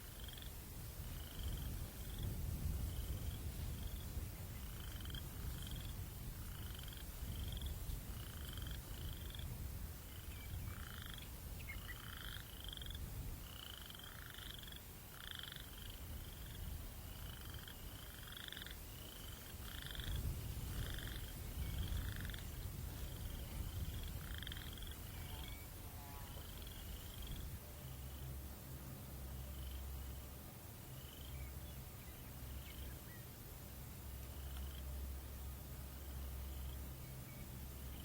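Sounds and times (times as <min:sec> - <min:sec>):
low rumble of breeze: 0:00.0 - 0:38.0.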